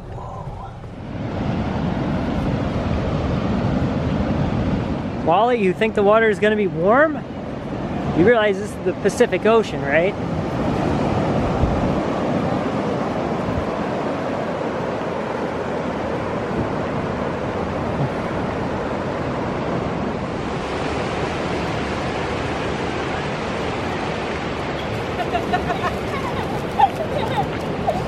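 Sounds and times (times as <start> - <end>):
wind buffeting microphone: 0.0 - 5.3, 10.1 - 28.0
surf washing onto beach: 0.4 - 28.0.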